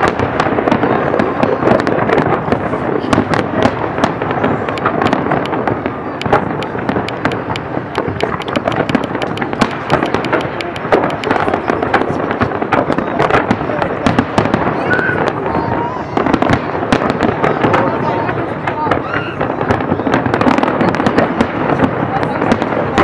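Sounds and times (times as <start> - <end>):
continuous fireworks din: 0.0 - 23.0
fireworks cracking: 0.0 - 23.0.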